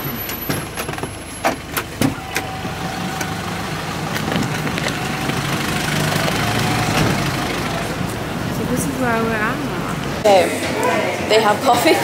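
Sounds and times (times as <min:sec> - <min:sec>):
vehicle engine idling: 0:00.0 - 0:10.2.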